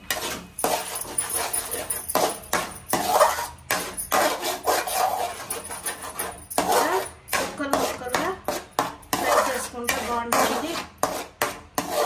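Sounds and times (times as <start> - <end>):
metal spatula scraping wok: 0.0 - 12.0.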